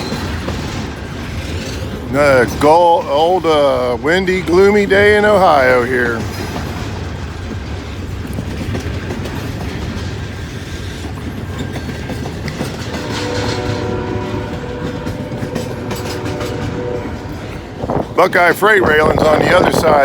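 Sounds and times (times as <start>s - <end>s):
freight train cars rumbling: 0.0s - 20.0s
wheels clicking over rail joints: 0.0s - 20.0s.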